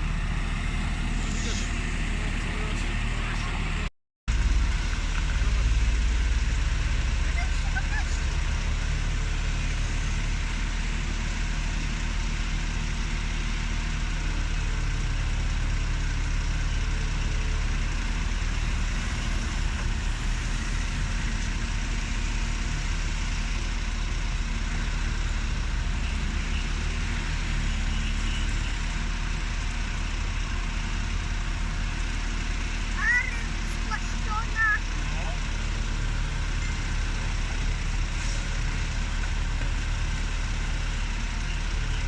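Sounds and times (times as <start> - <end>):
large vehicle engine idling: 0.0 - 42.0.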